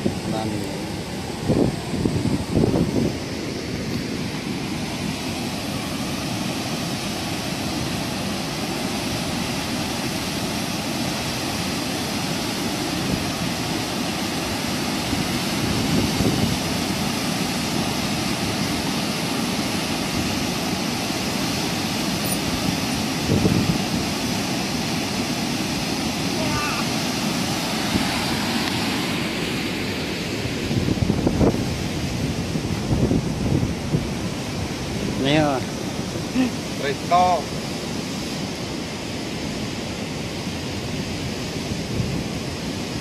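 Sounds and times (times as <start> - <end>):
floodwater rushing under bridge: 0.0 - 43.0.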